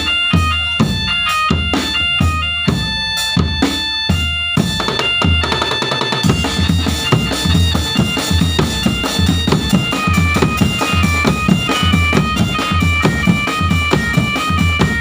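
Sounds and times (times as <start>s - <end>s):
bass drum beat: 0.0s - 15.0s
drums: 0.0s - 15.0s
reedy wind instrument melody: 0.0s - 15.0s.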